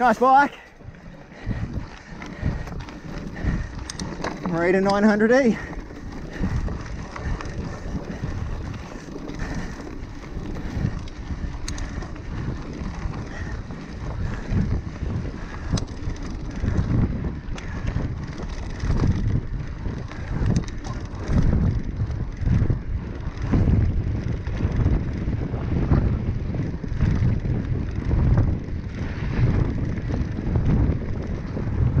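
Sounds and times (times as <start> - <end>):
bike clicking over bumps: 0.0 - 32.0
bike tyres on dirt: 0.0 - 32.0
wind buffeting microphone: 0.0 - 32.0.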